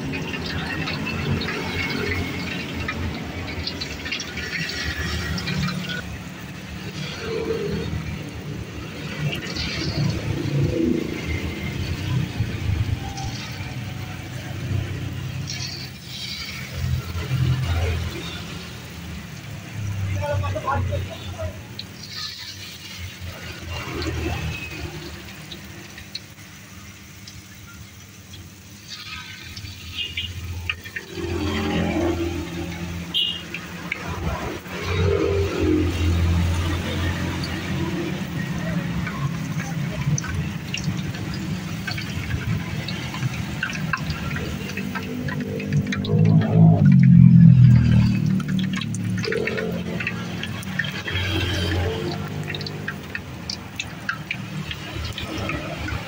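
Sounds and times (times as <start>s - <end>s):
batter sizzling in hot oil: 0.0s - 56.0s
oil popping: 0.0s - 56.0s.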